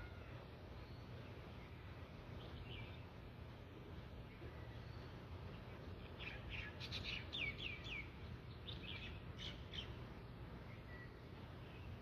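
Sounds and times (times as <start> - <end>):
bird chirping: 0.1 - 3.3, 4.2 - 12.0.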